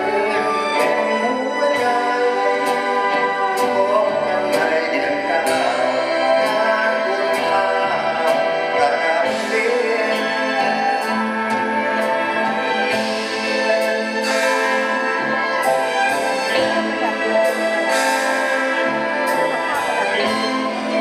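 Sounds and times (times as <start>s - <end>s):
live orchestra playing: 0.0s - 21.0s.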